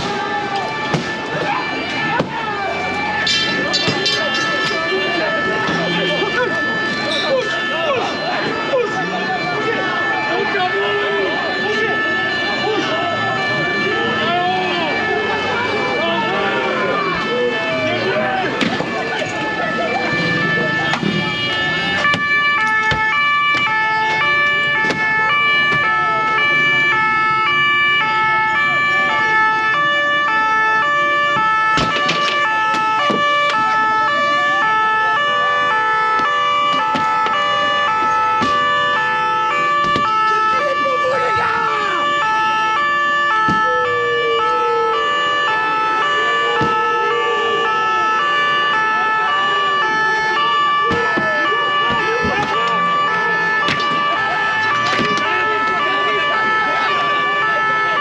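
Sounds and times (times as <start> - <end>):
two-tone emergency siren: 0.0 - 58.0.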